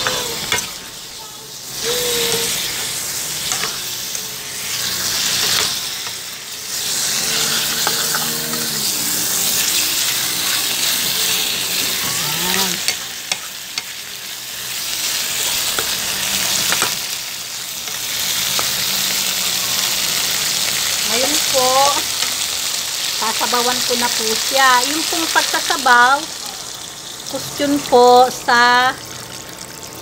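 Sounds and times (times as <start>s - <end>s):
meat sizzling in oil: 0.0s - 30.0s.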